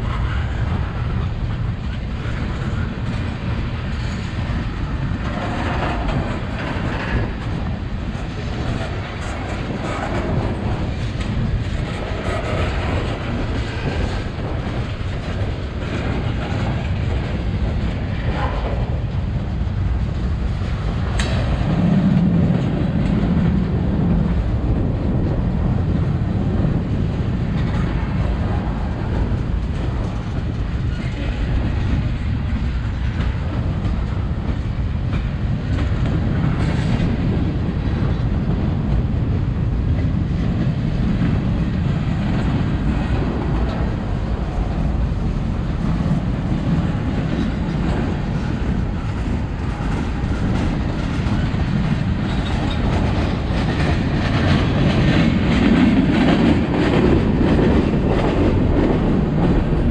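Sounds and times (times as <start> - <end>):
clickety-clack over rail joints: 0.0 - 59.9
freight train wheels rumbling: 0.0 - 59.9.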